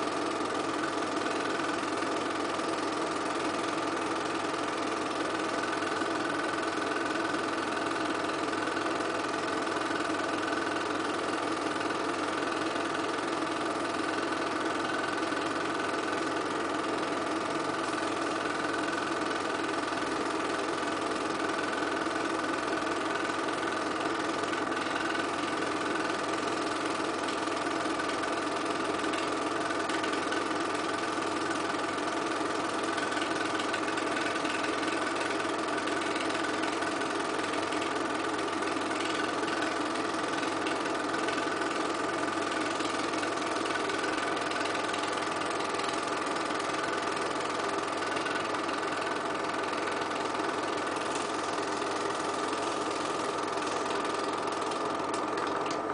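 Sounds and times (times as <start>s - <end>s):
film projector whirring: 0.0s - 55.9s.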